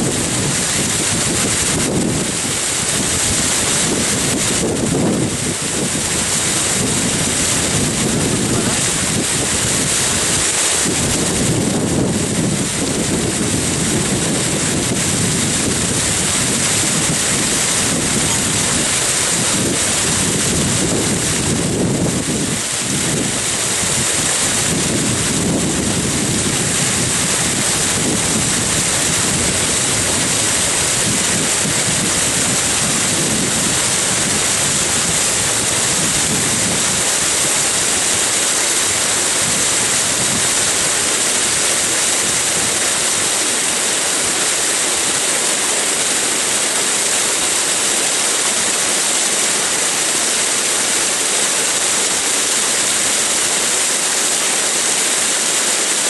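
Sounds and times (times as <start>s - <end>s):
water rushing over spillway: 0.0s - 56.0s.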